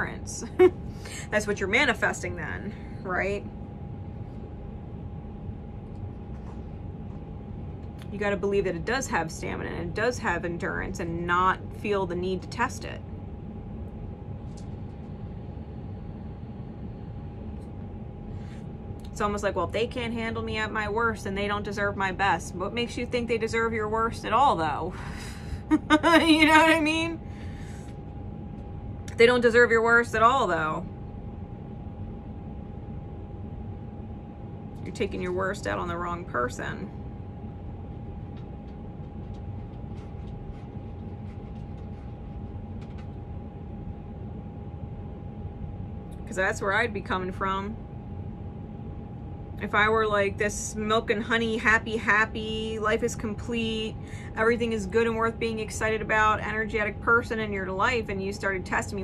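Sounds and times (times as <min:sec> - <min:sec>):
faint thin hum: 0:00.0 - 0:59.0
low background rumble: 0:00.0 - 0:59.0.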